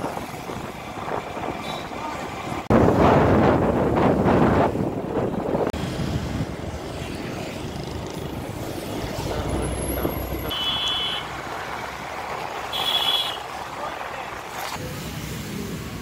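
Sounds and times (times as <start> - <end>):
road noise and wind: 0.0 - 16.0.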